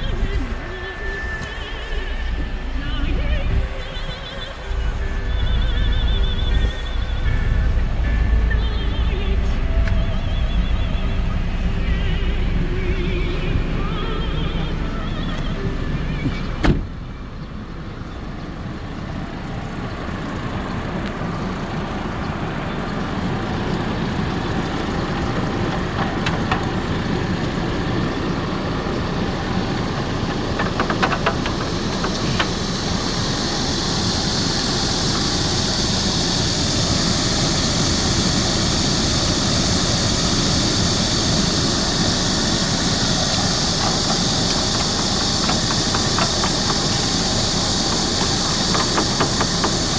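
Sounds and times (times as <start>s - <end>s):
engine idling: 0.0s - 49.9s
high gas hiss: 0.0s - 49.9s.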